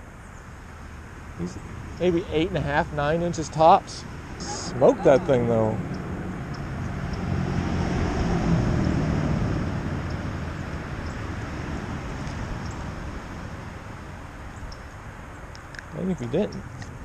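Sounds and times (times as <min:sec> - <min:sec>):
motor vehicle passing: 0:00.0 - 0:17.0.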